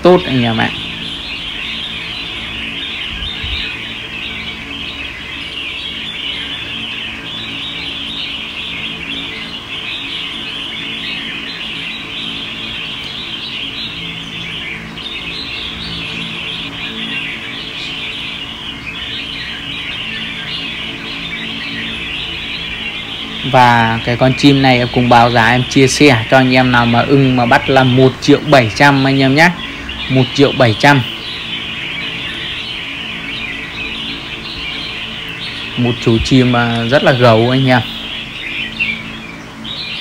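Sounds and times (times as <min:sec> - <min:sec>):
songbirds chirping and chattering: 0:00.0 - 0:40.0.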